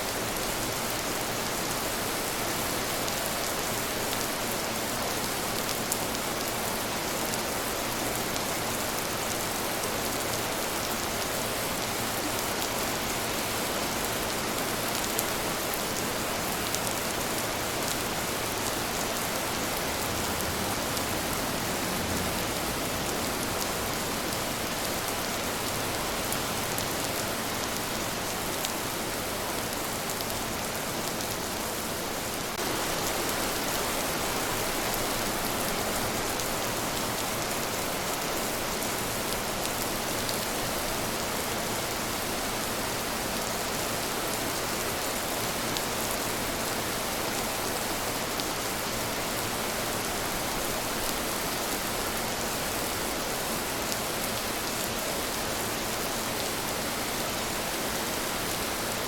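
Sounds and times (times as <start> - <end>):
rain hissing on a surface: 0.0 - 59.0.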